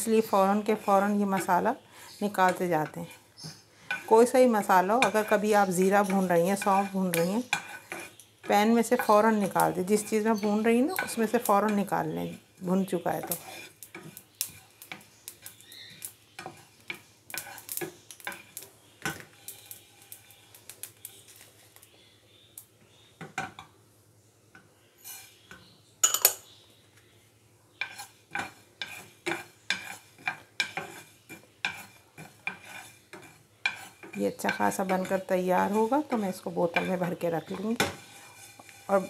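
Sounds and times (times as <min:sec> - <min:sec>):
wooden spoon scraping a frying pan: 0:00.0 - 0:21.9, 0:24.6 - 0:25.7, 0:27.7 - 0:39.0.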